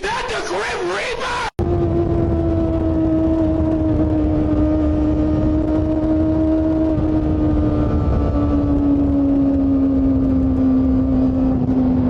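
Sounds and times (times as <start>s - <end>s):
motorcycle engine revving: 1.6s - 12.0s.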